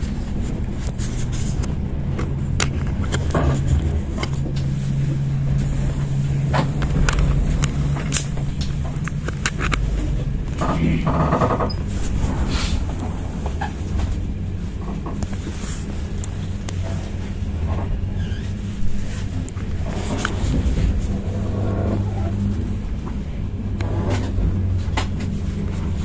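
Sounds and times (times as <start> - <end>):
low steady hum: 0.0 - 26.0
train clicks and knocks: 0.0 - 26.0
train rumbling: 0.0 - 26.0.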